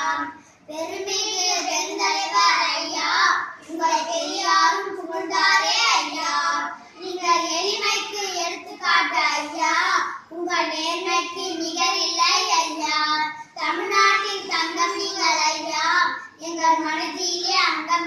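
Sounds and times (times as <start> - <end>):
girls singing unaccompanied: 0.0 - 18.0.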